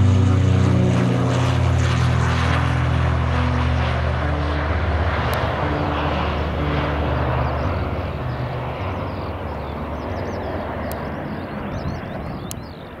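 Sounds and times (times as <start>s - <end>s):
turboprop plane droning: 0.0s - 13.0s.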